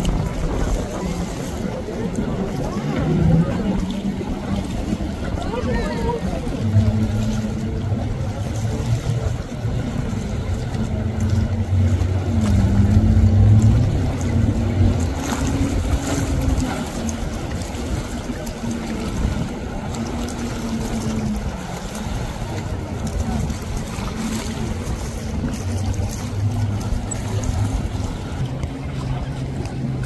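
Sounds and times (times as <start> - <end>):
boat engine droning: 0.0 - 30.0
constant rushing noise: 0.0 - 30.0.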